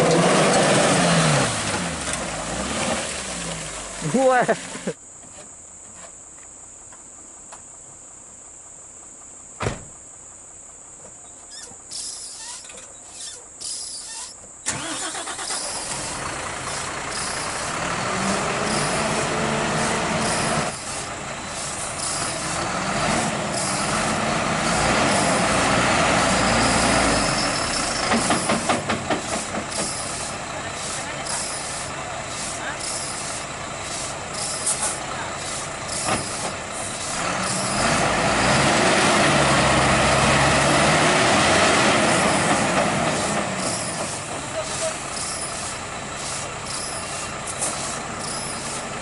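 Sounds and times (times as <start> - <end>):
truck diesel engine revving: 0.0 - 5.0, 14.7 - 49.0.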